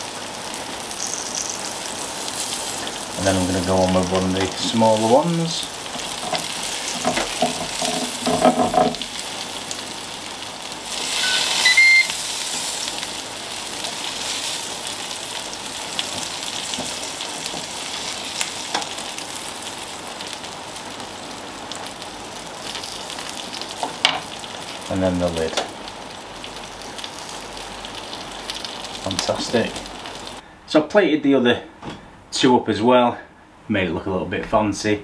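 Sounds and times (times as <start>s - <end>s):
mushrooms sizzling on a grill: 0.0s - 30.4s.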